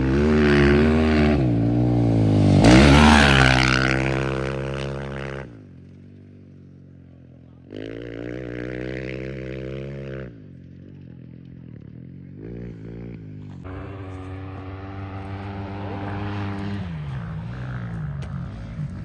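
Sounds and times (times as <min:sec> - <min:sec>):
motorcycle engines at high revs: 0:00.0 - 0:19.0.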